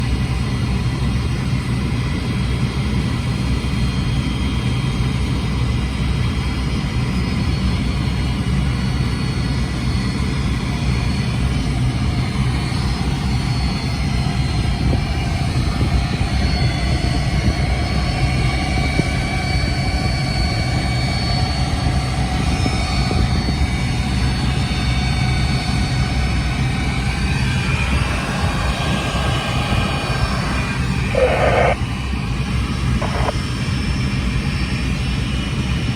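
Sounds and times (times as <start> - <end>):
high jet engine whine: 0.0 - 35.9
jet engines deep rumble: 0.0 - 35.9.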